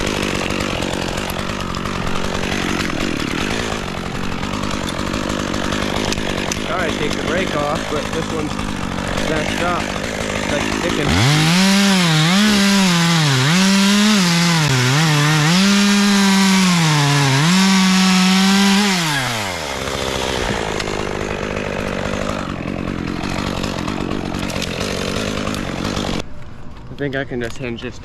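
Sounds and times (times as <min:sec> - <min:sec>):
chainsaw cutting wood: 0:00.0 - 0:26.2.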